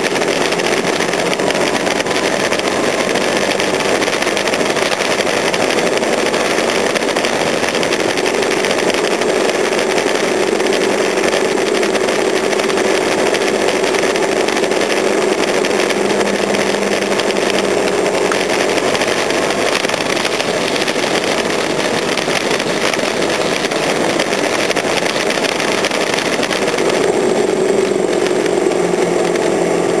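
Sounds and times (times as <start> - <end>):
constant rushing noise: 0.0 - 30.0
small engine running: 0.0 - 30.0.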